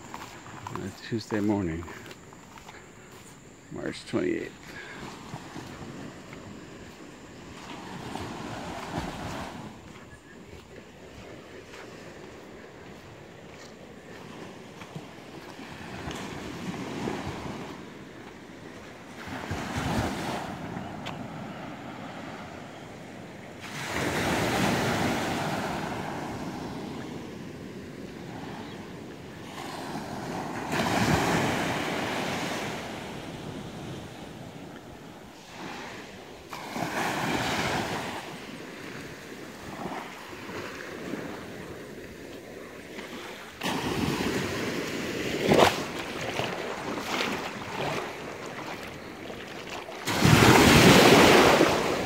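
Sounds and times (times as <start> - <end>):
small waves breaking on beach: 0.0 - 52.0.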